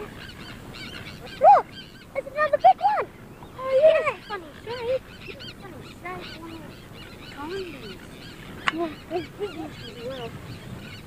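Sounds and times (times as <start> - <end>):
seabird colony calling: 0.0 - 11.0.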